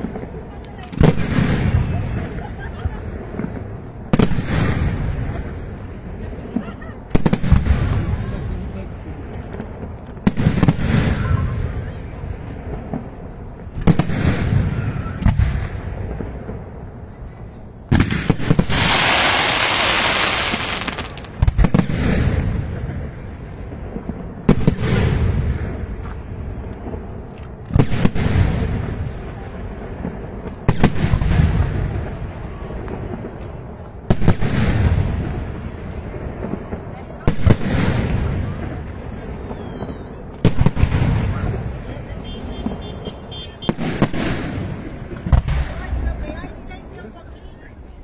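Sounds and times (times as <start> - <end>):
fireworks banging: 0.0 - 48.0.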